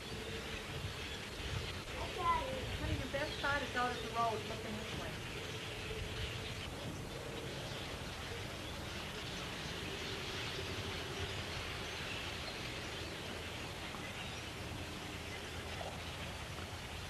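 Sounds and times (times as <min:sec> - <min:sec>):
flock of birds chattering: 0:00.0 - 0:17.0.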